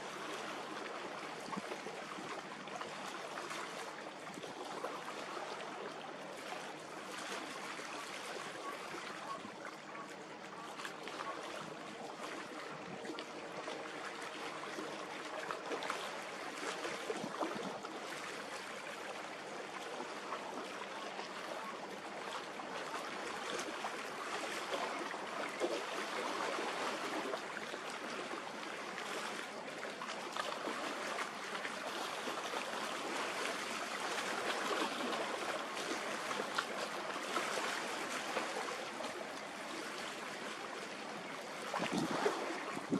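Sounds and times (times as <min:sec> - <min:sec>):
small waves lapping: 0:00.0 - 0:42.9.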